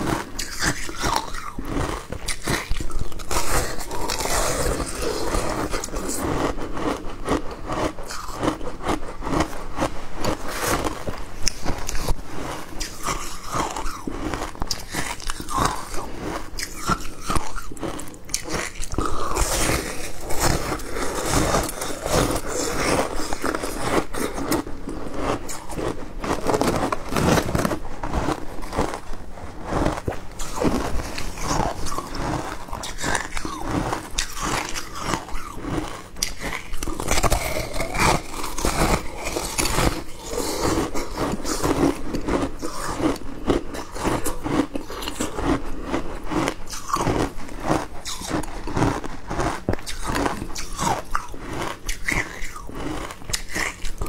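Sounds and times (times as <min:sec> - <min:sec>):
person crunching shaved ice: 0:00.0 - 0:54.0.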